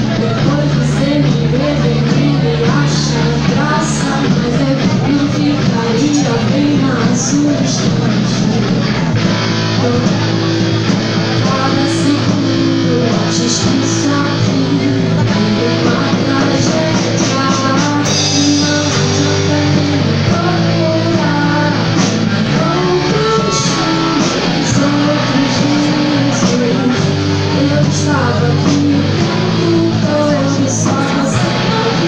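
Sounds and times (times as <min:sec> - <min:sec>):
bass guitar: 0:00.0 - 0:32.0
drum kit: 0:00.0 - 0:32.0
electric guitar: 0:00.0 - 0:32.0.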